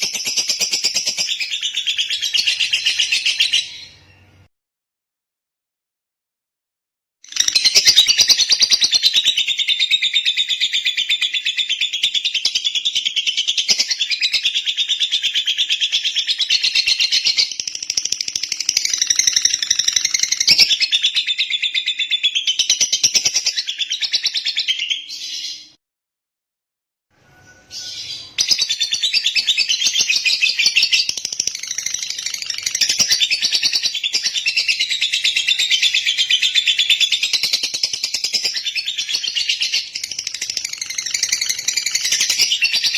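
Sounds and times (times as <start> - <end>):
lovebird chirping: 0.0 - 4.5, 7.3 - 25.8, 27.2 - 42.9.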